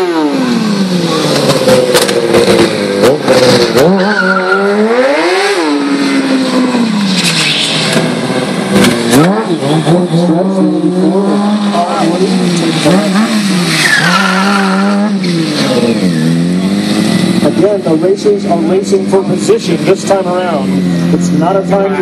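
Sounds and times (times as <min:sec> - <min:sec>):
sport bike engine revving: 0:00.0 - 0:22.0.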